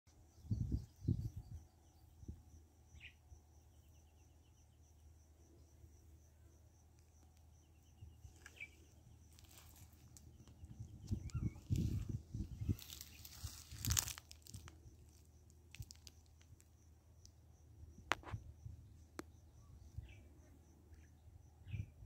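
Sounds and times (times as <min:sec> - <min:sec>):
insects chirping in grass: 0:00.2 - 0:22.0.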